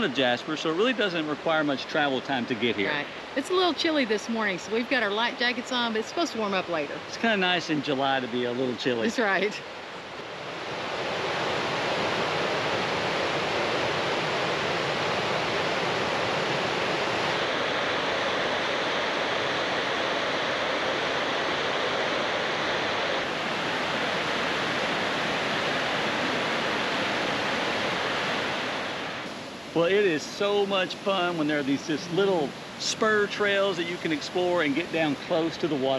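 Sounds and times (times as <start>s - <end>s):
whitewater rushing: 0.0s - 35.9s.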